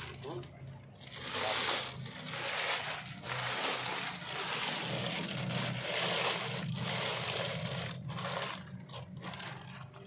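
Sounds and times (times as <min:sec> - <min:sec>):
plastic bags rustling: 0:00.0 - 0:10.0.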